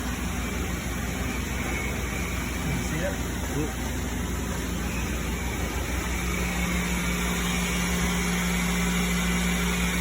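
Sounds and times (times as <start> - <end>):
machining center hum and hiss: 0.0 - 10.0.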